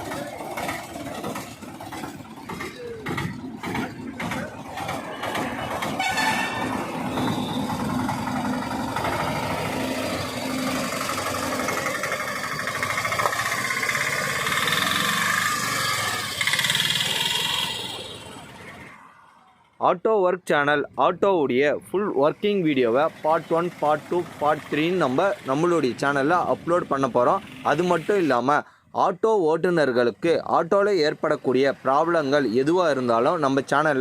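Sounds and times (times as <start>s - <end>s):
auto-rickshaw engine running: 0.0s - 20.0s, 20.6s - 34.0s.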